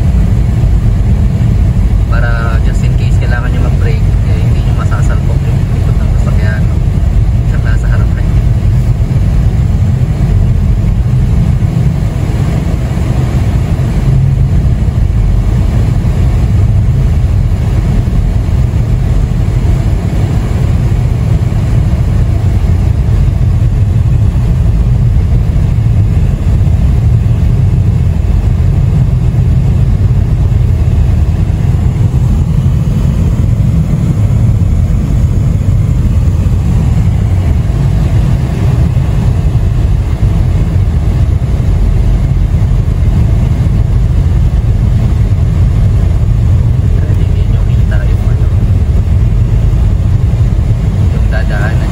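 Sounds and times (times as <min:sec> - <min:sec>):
engine and tyre rumble: 0:00.0 - 0:51.9.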